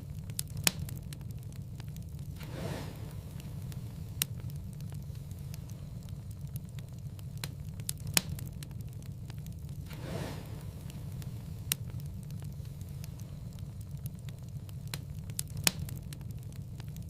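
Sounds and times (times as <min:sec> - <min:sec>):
fire popping: 0:00.0 - 0:17.0
soft hiss: 0:00.0 - 0:17.0
wood fire crackling: 0:00.0 - 0:17.0.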